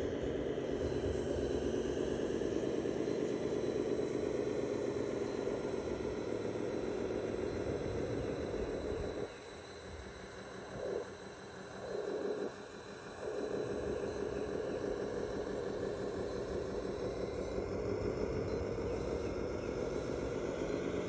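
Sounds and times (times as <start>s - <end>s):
small electric motor whine: 0.0s - 21.0s.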